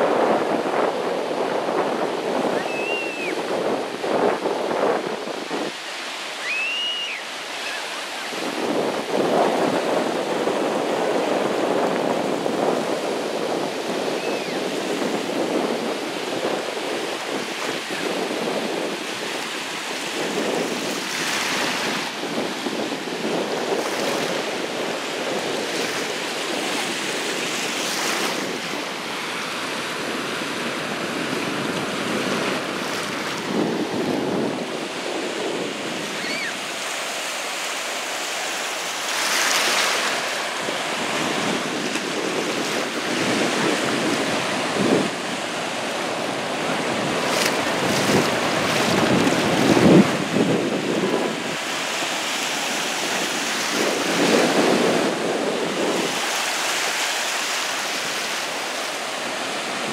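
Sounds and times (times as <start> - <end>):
ocean surf washing: 0.0 - 59.9
wind buffeting microphone: 0.0 - 59.9.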